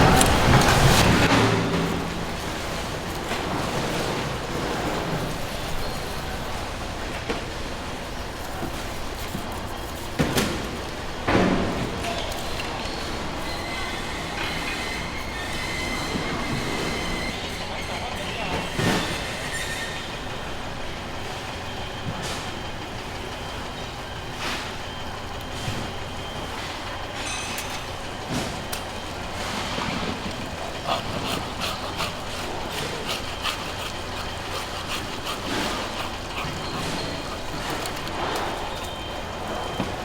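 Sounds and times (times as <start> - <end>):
busy background noise: 0.0 - 40.0.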